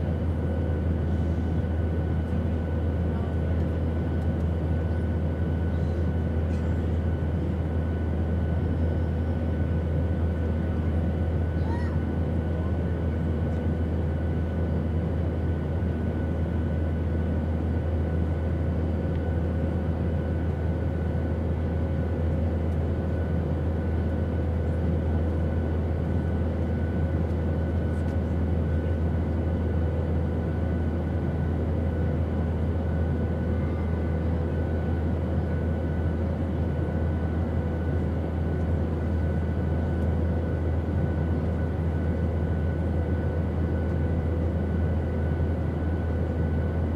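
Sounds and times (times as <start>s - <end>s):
airplane drone: 0.0s - 46.9s.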